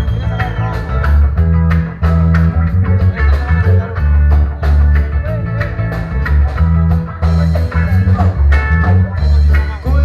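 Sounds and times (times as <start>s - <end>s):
choppy guitar strums: 0.0s - 10.0s
heavy bass line: 0.0s - 10.0s.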